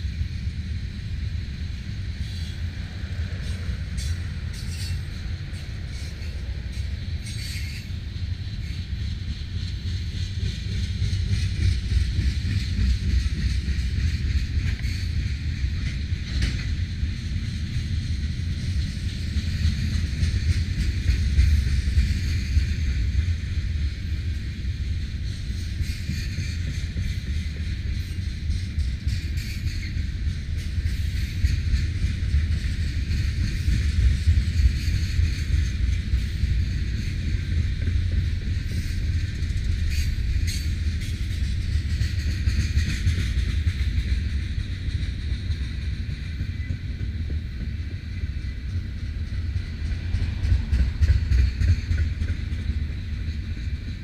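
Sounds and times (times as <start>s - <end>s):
freight train wheels rumbling on rail: 0.0s - 54.0s
short clicks of train wheels: 3.4s - 54.0s.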